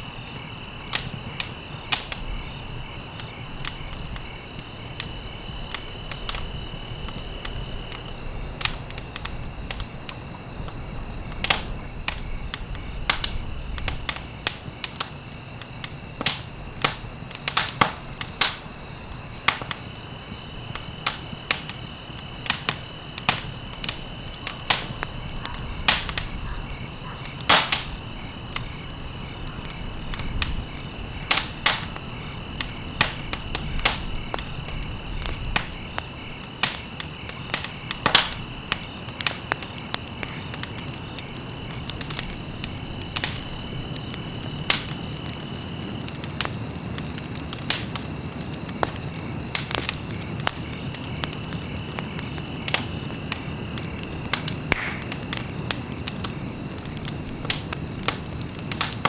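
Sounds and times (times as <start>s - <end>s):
fire pops and snaps: 0.0s - 59.0s
wood fire crackling: 0.0s - 59.0s.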